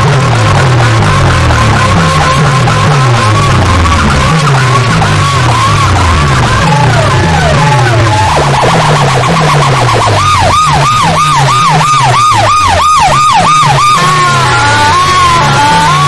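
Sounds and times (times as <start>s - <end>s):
repeating bass line: 0.0s - 16.0s
siren-like effect warbling: 0.0s - 16.0s.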